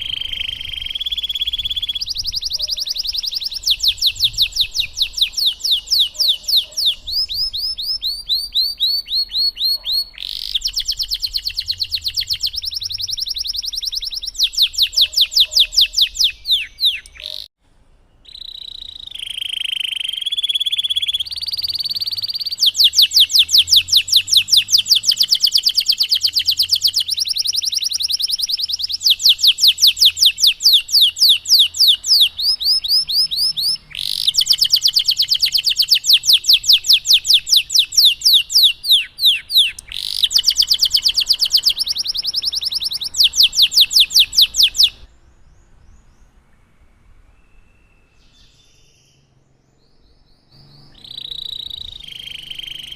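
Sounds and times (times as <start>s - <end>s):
canary singing trills: 0.0s - 17.5s, 18.2s - 46.5s, 47.2s - 52.9s.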